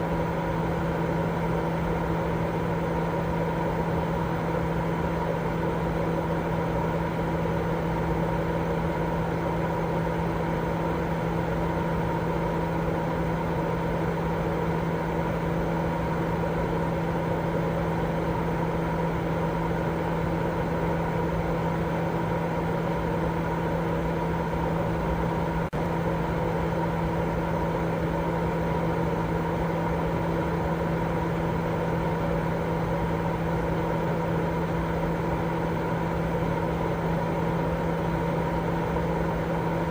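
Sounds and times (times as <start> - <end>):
low machine-like hum: 0.0 - 39.9.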